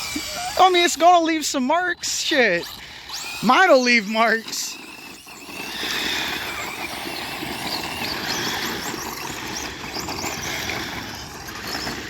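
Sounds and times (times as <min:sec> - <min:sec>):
rc truck motors whining: 0:00.0 - 0:12.0
tyres rushing on ground: 0:00.0 - 0:12.0.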